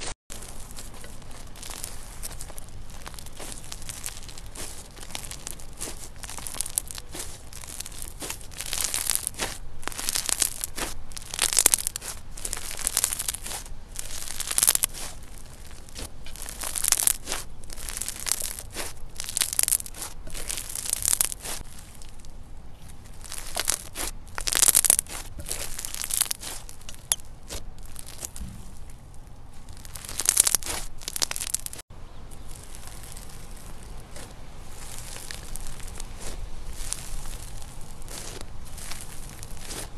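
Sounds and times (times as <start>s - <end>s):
slime crunching as kneaded: 0.0s - 39.9s.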